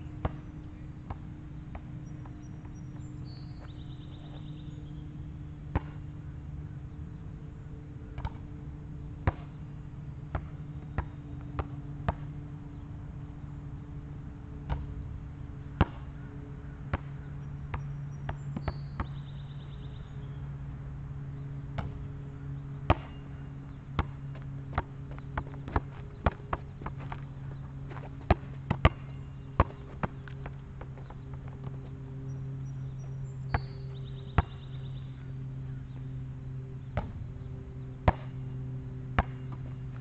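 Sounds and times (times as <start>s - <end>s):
low hum: 0.0s - 40.0s
basketball bouncing on asphalt: 0.1s - 6.1s, 8.1s - 8.5s, 9.2s - 9.6s, 10.2s - 12.5s, 14.6s - 15.0s, 15.6s - 20.3s, 21.3s - 40.0s.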